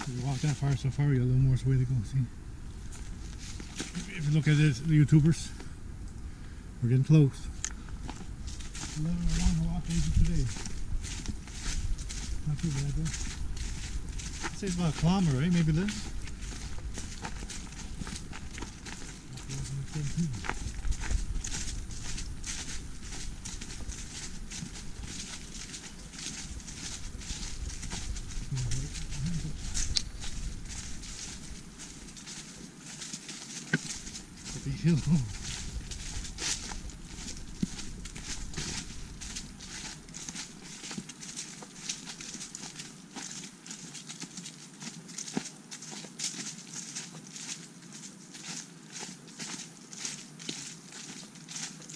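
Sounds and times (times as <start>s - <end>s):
footsteps on dry leaves: 0.0s - 51.9s.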